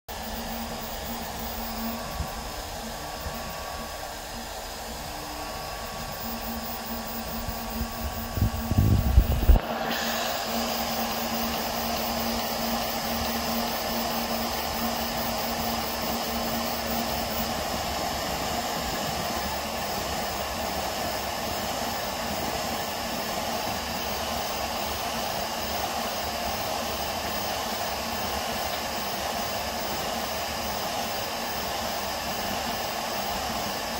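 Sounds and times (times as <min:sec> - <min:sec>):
printer fans and motors whirring: 0:00.1 - 0:33.9.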